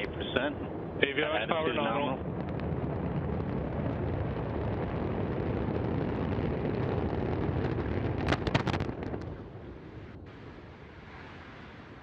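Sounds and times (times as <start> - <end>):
low rocket explosion rumble: 0.0 - 12.0.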